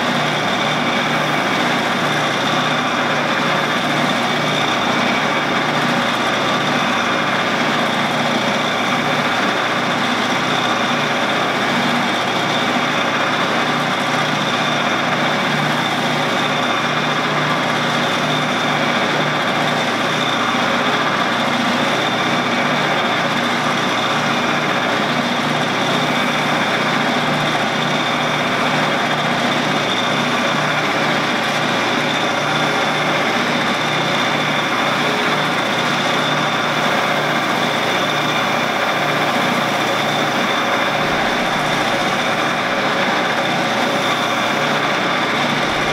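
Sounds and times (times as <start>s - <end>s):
motor humming with high whine: 0.0s - 45.9s.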